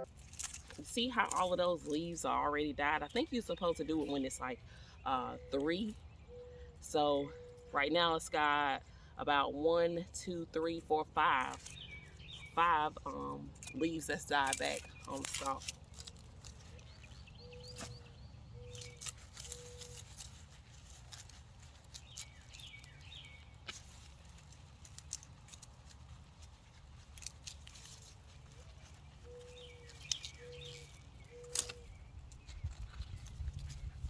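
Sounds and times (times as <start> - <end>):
small birds chirping: 0.0 - 9.1, 10.0 - 34.0.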